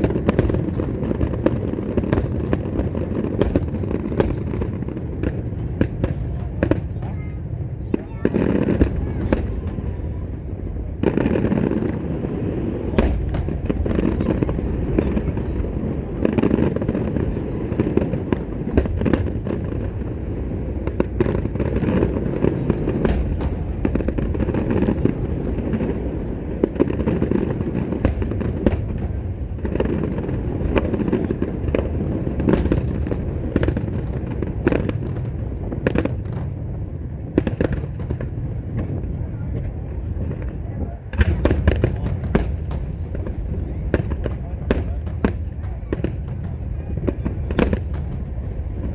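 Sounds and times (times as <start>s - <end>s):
sharp firework cracks: 0.0s - 10.0s, 12.8s - 15.4s, 16.2s - 39.0s, 41.1s - 48.9s
fireworks bursts rumbling: 0.0s - 48.9s.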